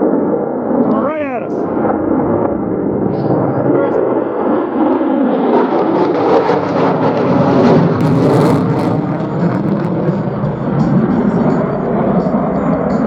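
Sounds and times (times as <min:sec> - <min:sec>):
jet engine low pass: 0:00.0 - 0:13.0.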